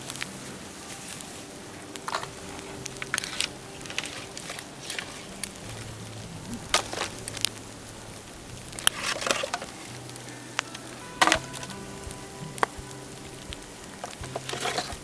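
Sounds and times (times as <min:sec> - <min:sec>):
bamboo crackling in a fire: 0:00.0 - 0:15.0.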